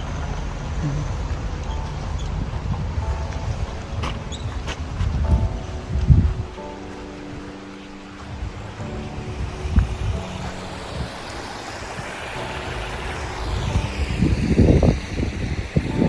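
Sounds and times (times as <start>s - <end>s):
faint background music: 0.0s - 16.0s
surf rushing: 0.0s - 16.0s
wind: 0.0s - 16.0s
wind buffeting microphone: 0.0s - 16.0s.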